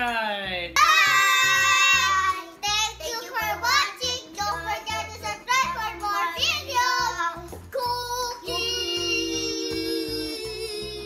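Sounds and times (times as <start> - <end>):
background music with steady beat: 0.0 - 11.0
children singing together: 0.8 - 11.0.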